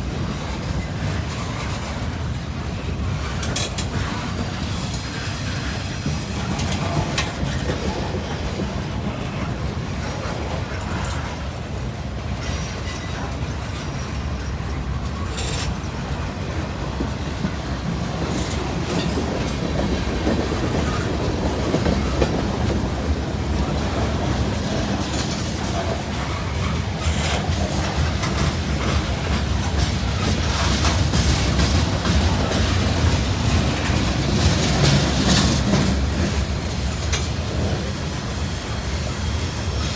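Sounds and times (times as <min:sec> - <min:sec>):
freight train rumbling: 0:00.0 - 0:39.9
wheels clicking over rail joints: 0:00.1 - 0:38.4.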